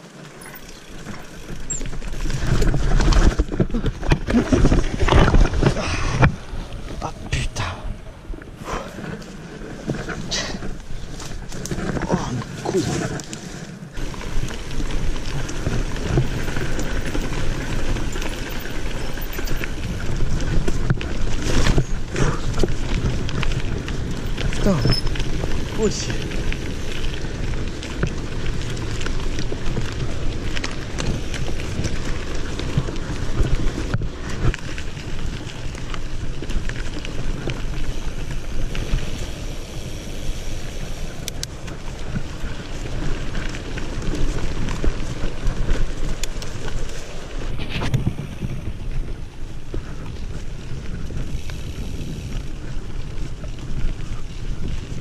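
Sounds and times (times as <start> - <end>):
bike rattling: 0.0 - 55.0
tyres crunching over gravel: 0.0 - 55.0.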